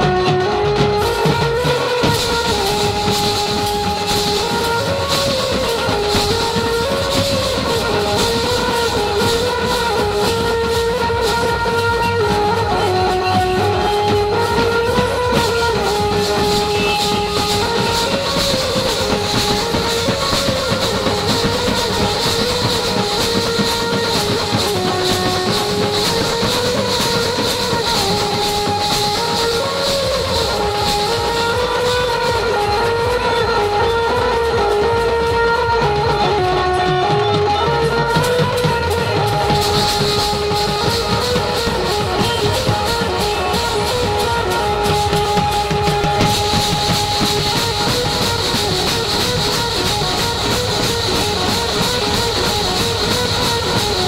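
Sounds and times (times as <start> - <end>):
drums in a fast rhythm: 0.0 - 54.0
melody of held notes: 0.0 - 54.0
metallic cymbal crashes: 2.0 - 12.4, 13.4 - 32.9, 39.3 - 54.0.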